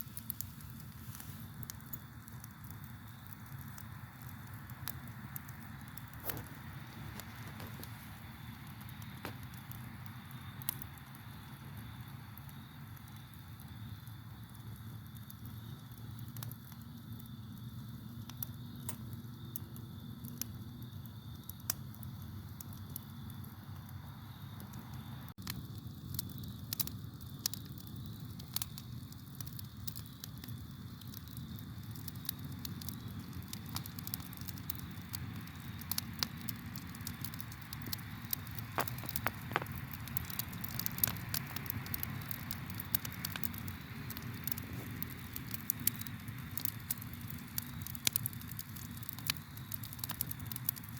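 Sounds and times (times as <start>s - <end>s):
low roar of flame: 0.0s - 50.9s
wood crackling and popping: 0.0s - 50.9s.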